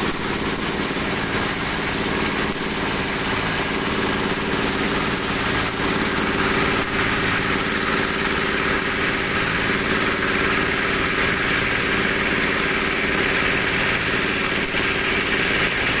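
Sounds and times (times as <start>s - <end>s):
machine humming and whirring: 0.0s - 16.0s.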